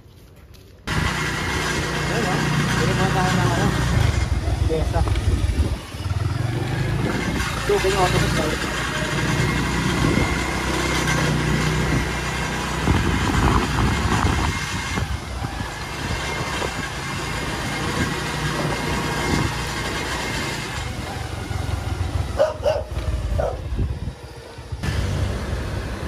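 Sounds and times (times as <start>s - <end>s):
road noise: 0.0s - 26.0s
motorcycle engine running: 0.9s - 26.0s.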